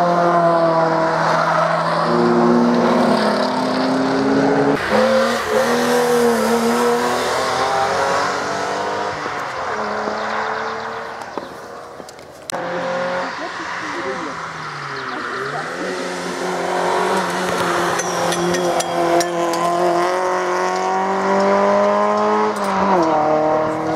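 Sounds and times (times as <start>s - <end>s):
race car engines at high revs: 0.0s - 23.9s.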